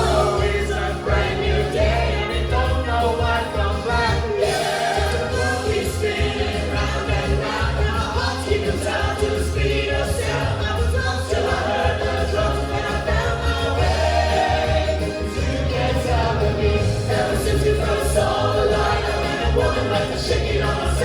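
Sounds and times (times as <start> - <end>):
bass beat: 0.0 - 21.0
group of voices singing: 0.0 - 21.0.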